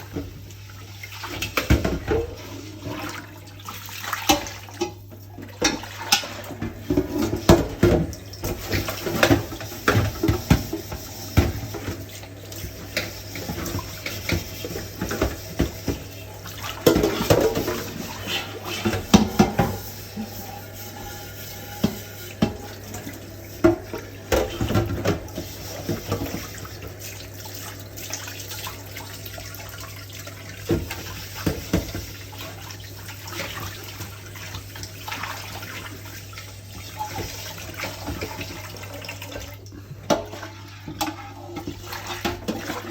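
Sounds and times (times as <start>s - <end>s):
dishes clattering in sink: 0.0s - 42.9s
tap water running and splashing: 0.0s - 42.9s.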